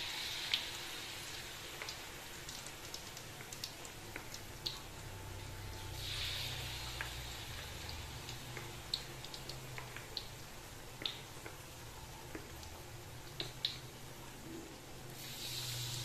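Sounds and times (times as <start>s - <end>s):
deep-frying sizzle with pops: 0.0s - 16.0s.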